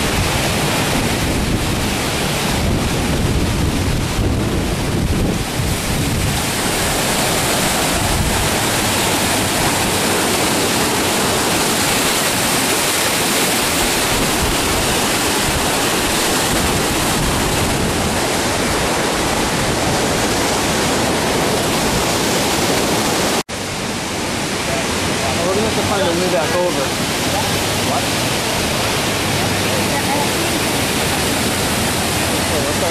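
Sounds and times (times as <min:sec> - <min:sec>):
floodwater rushing: 0:00.0 - 0:32.9.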